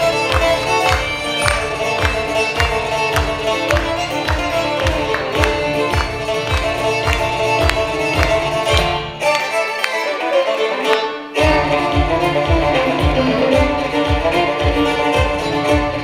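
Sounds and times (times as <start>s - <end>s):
low thumping beat: 0.0s - 9.2s, 11.4s - 16.0s
banjo: 0.0s - 16.0s
fiddles playing folk tune: 0.0s - 16.0s.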